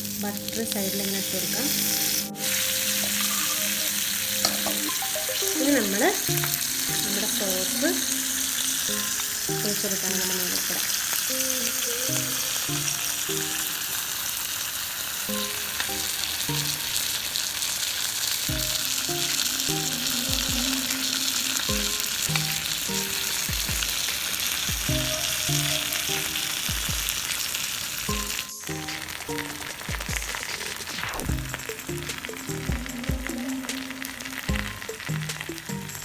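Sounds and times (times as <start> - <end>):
sauce sizzling on a hot plate: 0.0 - 36.0.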